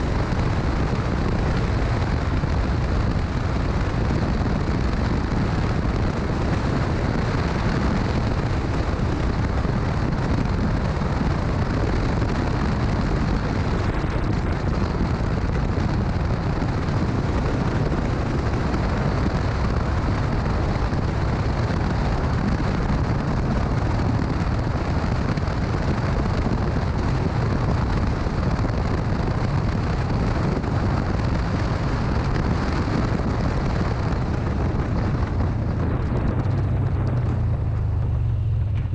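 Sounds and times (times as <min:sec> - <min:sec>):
motorcycle running: 0:00.0 - 0:38.9
wind buffeting microphone: 0:00.0 - 0:38.9.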